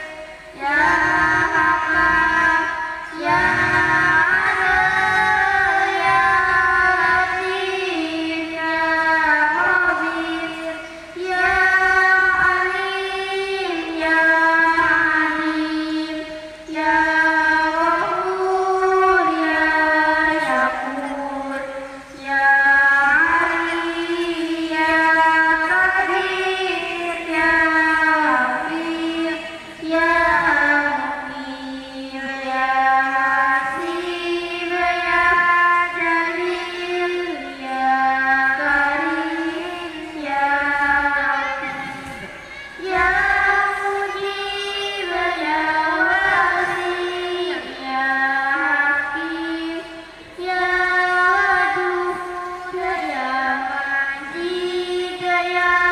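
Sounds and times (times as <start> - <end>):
girl chanting into microphone: 0.0 - 55.9.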